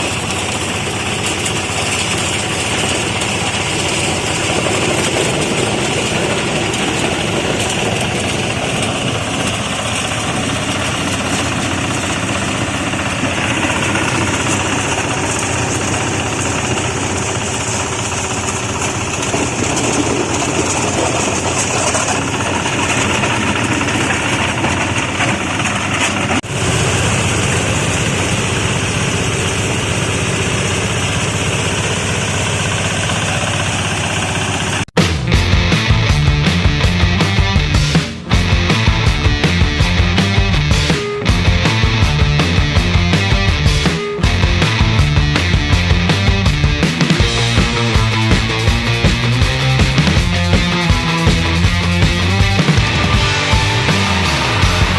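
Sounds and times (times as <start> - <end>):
machine motor droning: 0.0 - 34.9, 41.7 - 54.9
dense mechanical rattle: 0.0 - 54.9.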